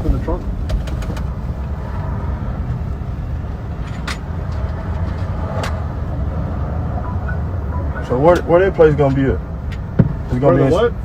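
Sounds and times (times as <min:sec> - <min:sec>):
low rumble of road vehicles: 0:00.0 - 0:11.0.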